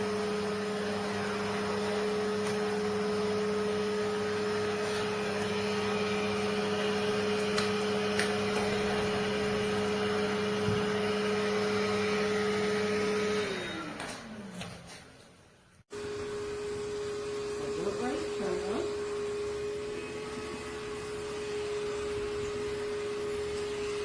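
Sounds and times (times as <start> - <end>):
motor spinning down: 0.0 - 14.6, 15.9 - 24.0
vacuum motor hum and whoosh: 0.0 - 14.6, 15.9 - 24.0.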